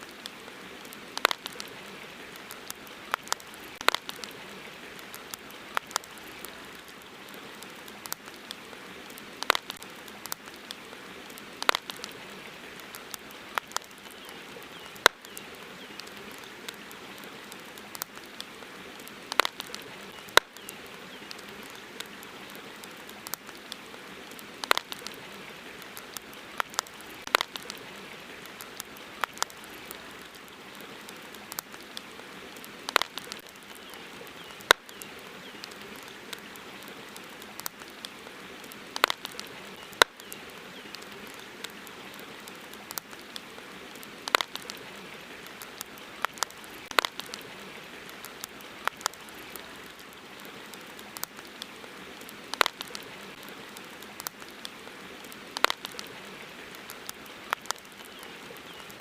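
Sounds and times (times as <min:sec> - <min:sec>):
campfire crackling: 0:00.0 - 0:59.0
soft hiss: 0:00.0 - 0:59.0.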